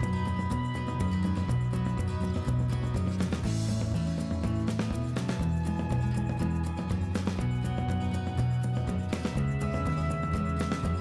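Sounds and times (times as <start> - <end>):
background music with steady beat: 0.0 - 11.0
held bass notes: 0.0 - 11.0
plucked guitar: 0.0 - 11.0.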